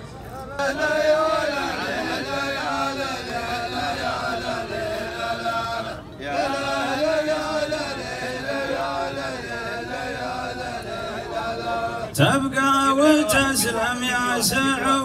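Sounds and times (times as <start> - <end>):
men chanting together: 0.6 - 15.0.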